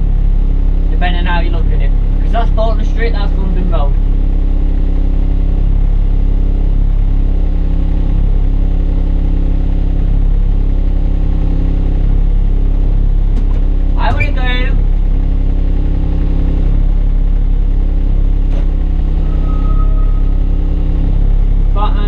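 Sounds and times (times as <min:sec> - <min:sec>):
bus engine humming: 0:00.0 - 0:22.0.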